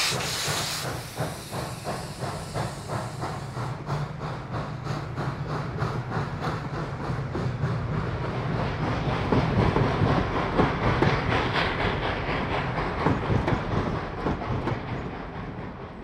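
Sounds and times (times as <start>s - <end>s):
railroad cars rumbling: 0.0s - 16.0s.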